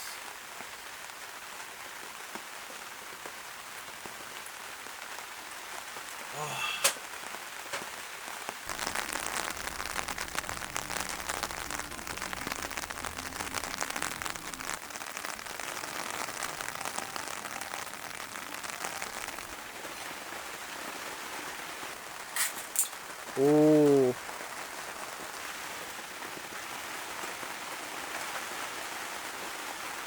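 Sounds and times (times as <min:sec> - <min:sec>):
rain pattering on a tent: 0:00.0 - 0:30.0.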